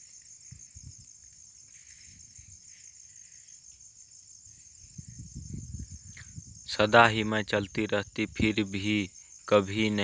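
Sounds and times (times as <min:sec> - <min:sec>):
high-pitched insect chirring: 0:00.0 - 0:10.0.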